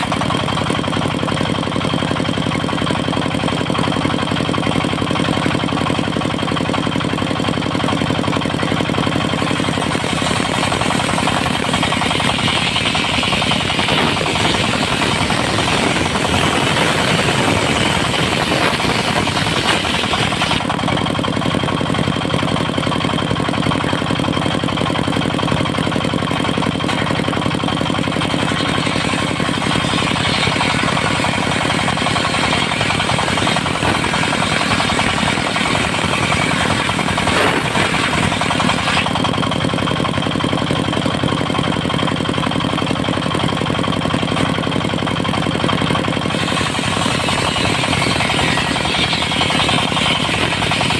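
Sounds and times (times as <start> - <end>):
sawmill diesel engine running: 0.0 - 50.9.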